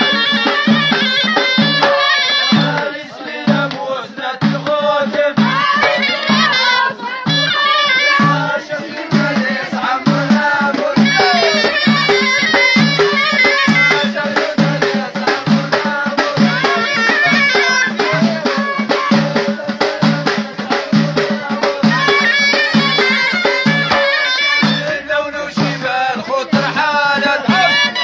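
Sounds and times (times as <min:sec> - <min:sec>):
frame drums beating: 0:00.0 - 0:28.0
men singing: 0:00.0 - 0:28.0
reedy shawm melody: 0:00.0 - 0:28.0.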